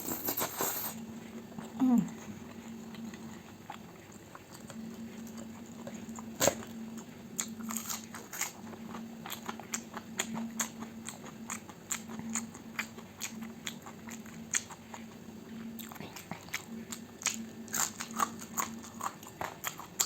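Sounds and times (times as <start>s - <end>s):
crunchy food chewing: 0.0s - 20.0s.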